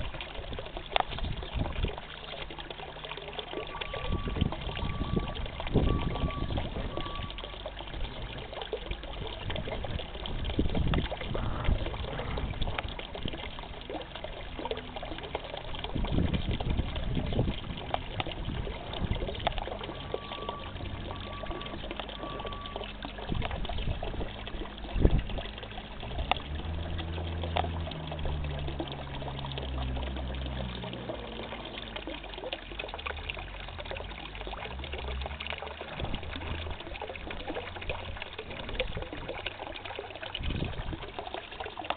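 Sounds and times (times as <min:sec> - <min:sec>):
fountain jet splashing into water: 0:00.0 - 0:41.9.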